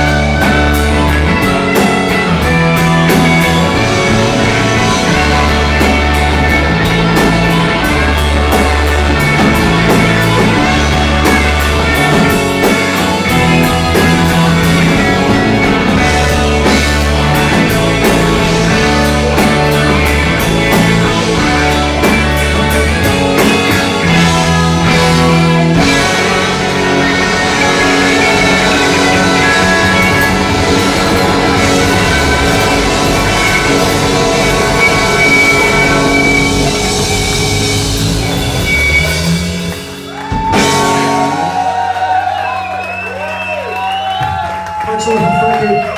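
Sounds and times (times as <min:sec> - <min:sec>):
deep bass notes: 0:00.0 - 0:43.6
drum kit: 0:00.0 - 0:45.9
electric guitar: 0:00.0 - 0:45.9.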